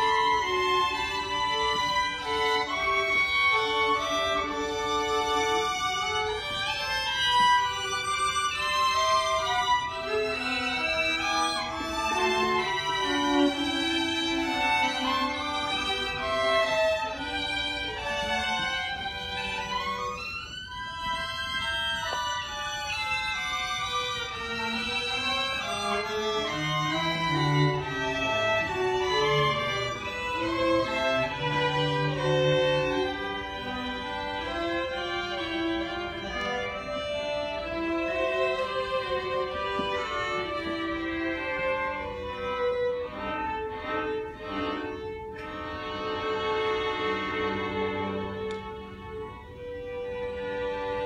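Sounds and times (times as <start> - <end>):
low cello notes: 0.0 - 51.0
string quartet playing: 0.0 - 51.0.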